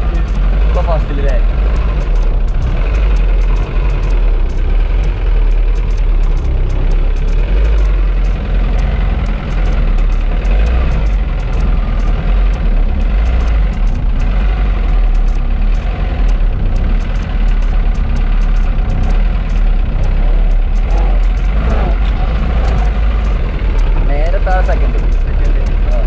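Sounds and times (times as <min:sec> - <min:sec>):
car engine low rumble: 0:00.0 - 0:26.0.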